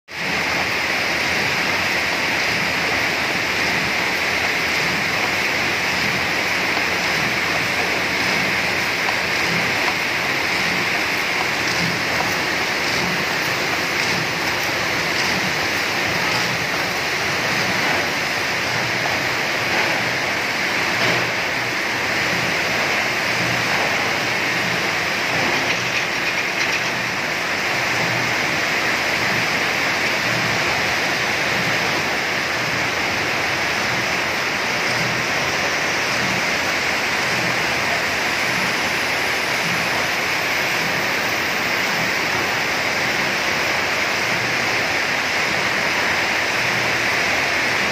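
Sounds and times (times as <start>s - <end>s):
wire mesh machine running: 0.1s - 47.9s.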